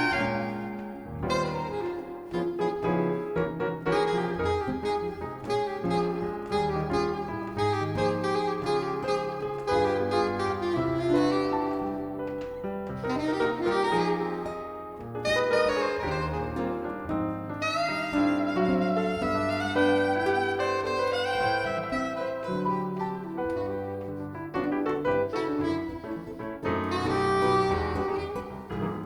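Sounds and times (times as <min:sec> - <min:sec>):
piano accompaniment: 0:00.0 - 0:29.0
soprano saxophone jazz melody: 0:00.0 - 0:29.0.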